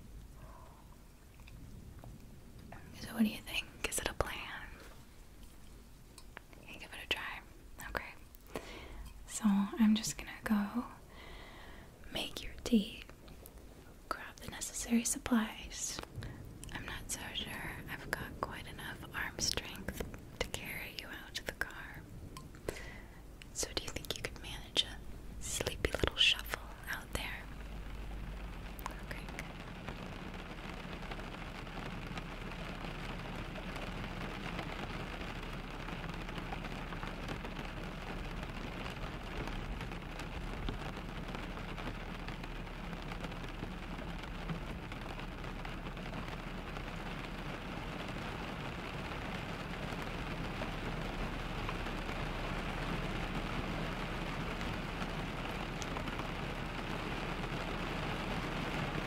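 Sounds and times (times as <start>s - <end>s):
rain on car windows and roof: 0.0s - 59.0s.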